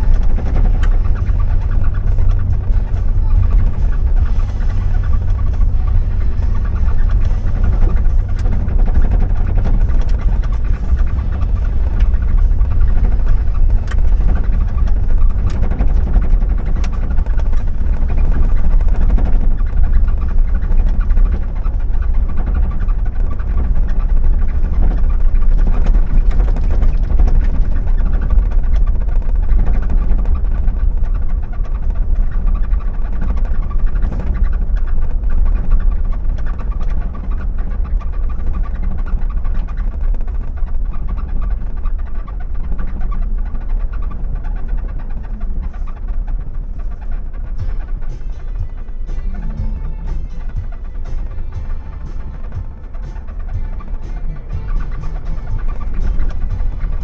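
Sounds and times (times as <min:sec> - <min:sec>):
car engine and road rumble: 0:00.0 - 0:57.0
small ticks and rattles: 0:00.0 - 0:57.0.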